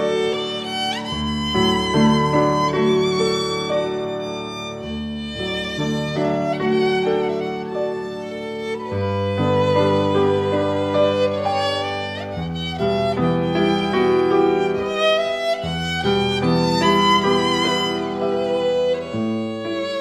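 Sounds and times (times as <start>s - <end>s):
violin melody with vibrato: 0.0s - 20.0s.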